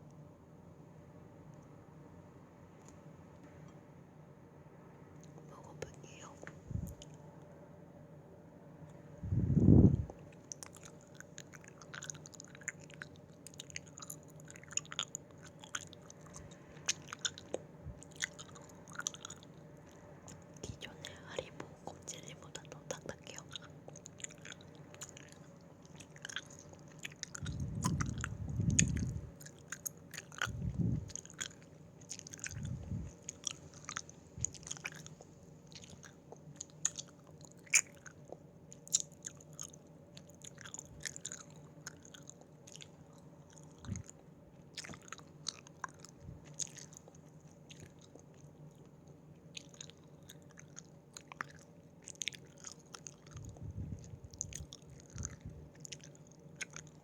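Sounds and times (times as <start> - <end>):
wet chewing clicks: 5.2 - 7.2, 9.3 - 57.0.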